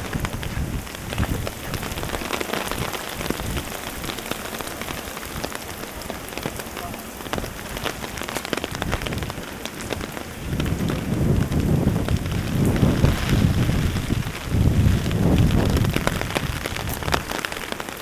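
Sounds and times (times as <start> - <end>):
heavy rain pattering: 0.0 - 18.0.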